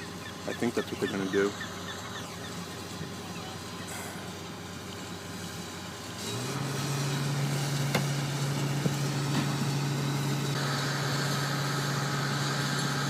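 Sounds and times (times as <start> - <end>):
crane engine running: 0.0 - 13.0.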